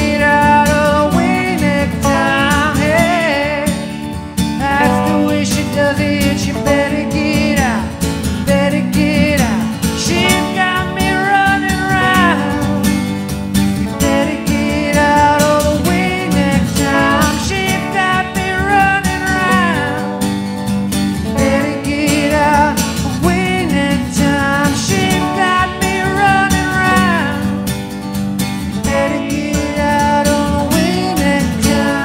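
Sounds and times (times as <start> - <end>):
man singing: 0.0 - 13.2, 13.8 - 20.4, 21.2 - 27.7, 28.7 - 32.0
clean electric guitar: 0.0 - 32.0
strummed acoustic guitar: 0.0 - 32.0.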